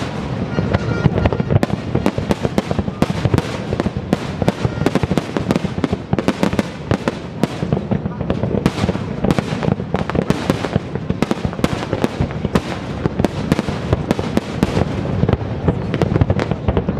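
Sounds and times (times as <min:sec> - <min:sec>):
fireworks bangs and crackles: 0:00.0 - 0:16.9.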